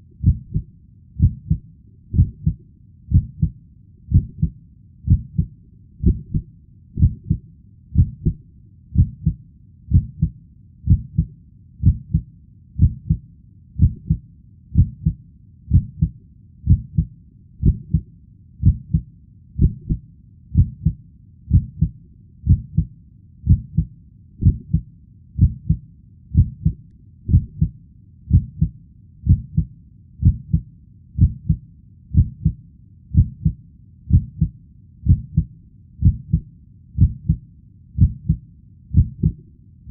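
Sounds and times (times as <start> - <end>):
heartbeat: 0.0 - 37.4, 38.0 - 39.9.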